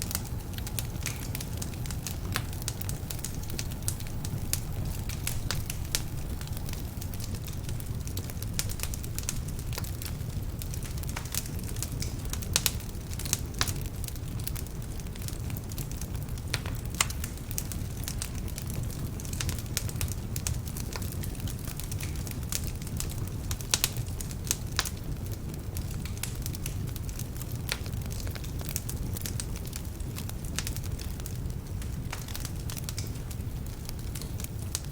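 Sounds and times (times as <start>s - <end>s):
fire rumbling: 0.0s - 34.9s
wood crackling and popping: 0.0s - 34.9s.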